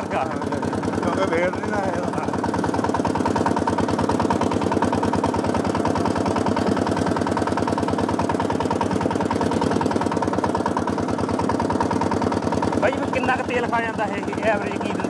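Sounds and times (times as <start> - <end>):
small tractor engine running: 0.0 - 15.0.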